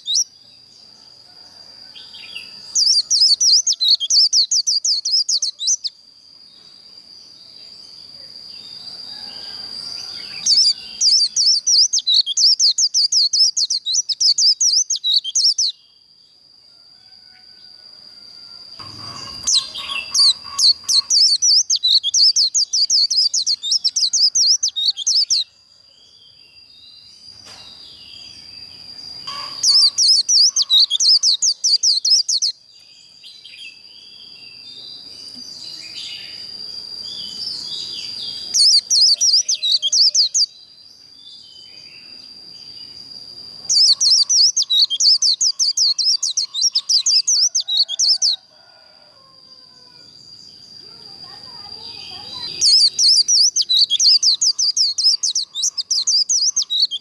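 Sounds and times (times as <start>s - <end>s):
bird twittering song: 0.0s - 0.9s, 2.0s - 6.6s, 7.3s - 16.0s, 18.8s - 25.5s, 26.1s - 48.5s, 50.2s - 57.0s.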